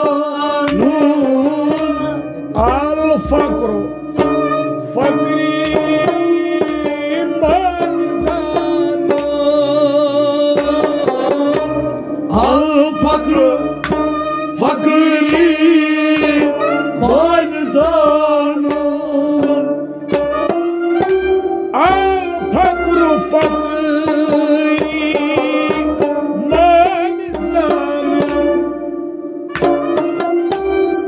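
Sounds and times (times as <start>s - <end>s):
man singing devotional song: 0.0s - 20.2s, 21.7s - 28.8s
tabla strokes: 0.0s - 31.0s.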